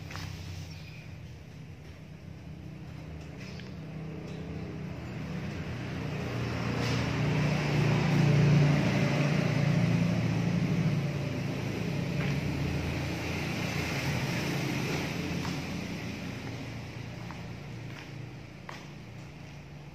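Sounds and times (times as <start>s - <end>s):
engine running: 0.0s - 19.9s.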